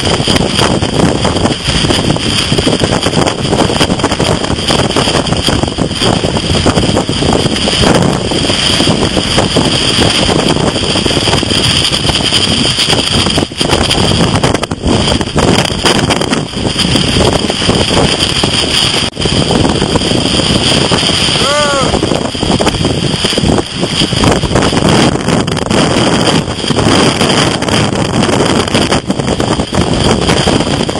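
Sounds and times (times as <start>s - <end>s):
heavy surf breaking: 0.0s - 30.9s
strong wind buffeting microphone: 0.0s - 30.9s.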